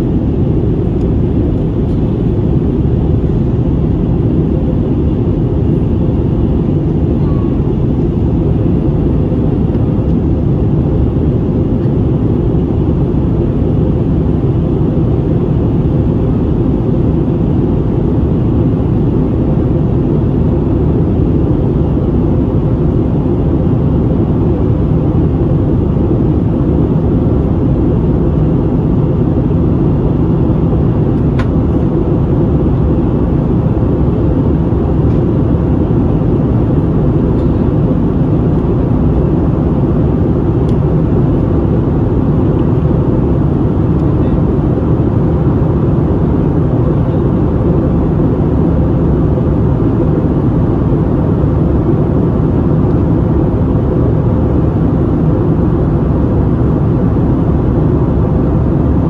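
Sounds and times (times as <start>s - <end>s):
aircraft cabin roar: 0.0s - 59.0s.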